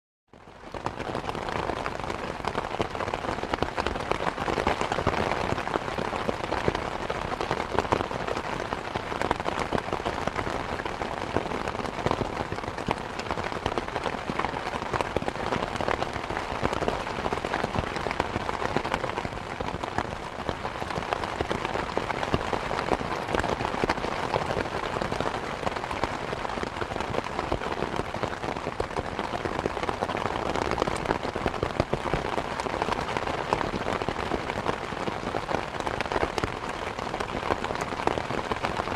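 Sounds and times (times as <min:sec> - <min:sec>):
rain pattering on a surface: 0:00.3 - 0:38.9.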